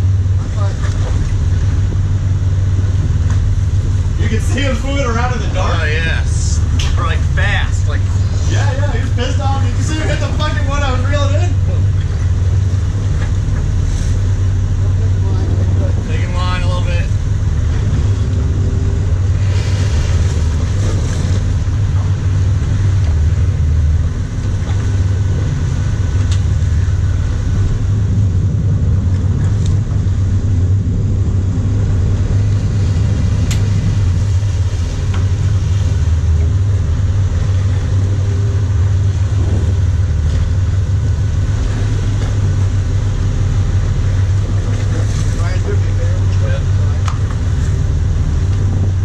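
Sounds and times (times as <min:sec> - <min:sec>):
boat engines rumbling: 0:00.0 - 0:49.0
water and wind hiss: 0:00.0 - 0:49.0.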